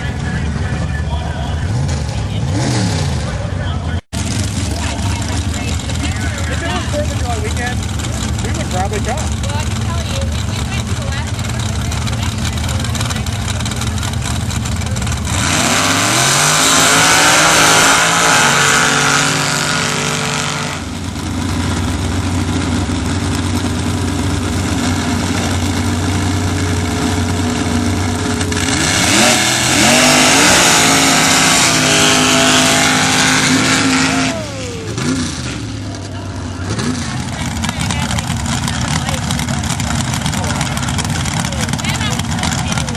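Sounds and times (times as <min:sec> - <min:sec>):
truck engines revving at full throttle: 0:00.0 - 0:42.9.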